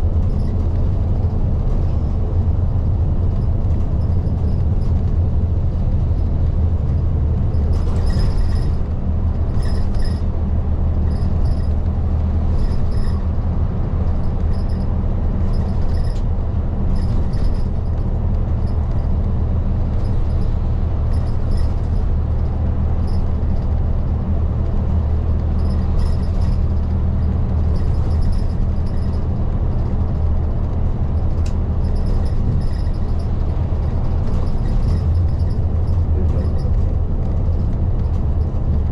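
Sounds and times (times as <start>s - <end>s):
bus diesel engine drone: 0.0s - 38.9s
tyre and road noise: 0.0s - 38.9s.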